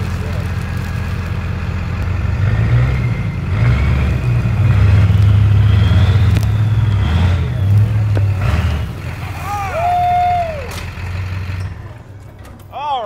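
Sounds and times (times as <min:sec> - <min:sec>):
diesel engines running hard: 0:00.0 - 0:12.8.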